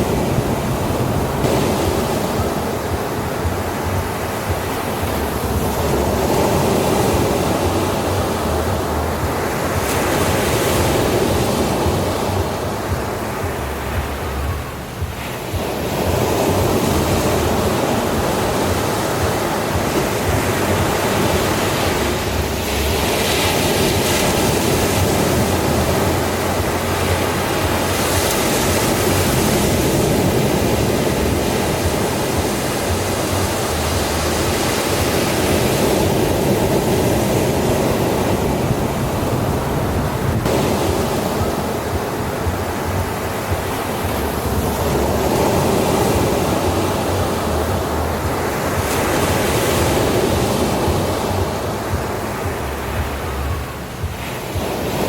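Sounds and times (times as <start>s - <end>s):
ocean waves washing onto shore: 0.0s - 55.0s.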